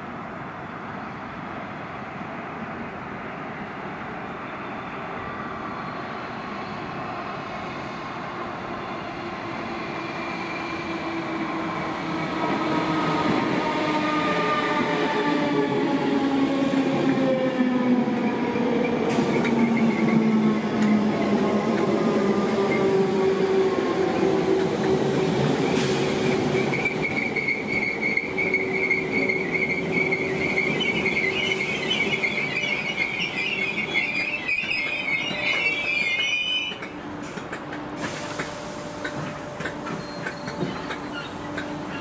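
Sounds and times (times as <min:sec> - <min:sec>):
high-pitched train squeal: 0:04.5 - 0:08.2, 0:09.6 - 0:36.9, 0:38.0 - 0:42.0.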